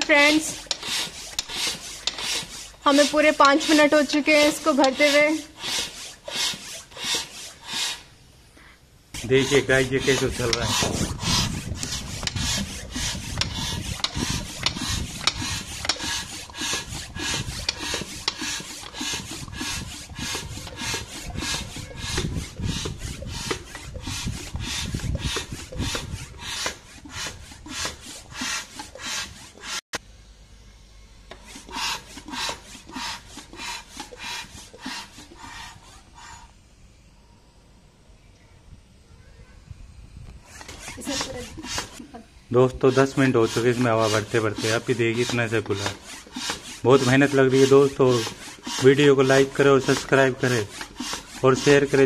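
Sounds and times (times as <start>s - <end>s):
hand pump rasping strokes: 0.0s - 8.2s, 9.1s - 30.0s, 31.3s - 36.7s, 40.4s - 52.0s.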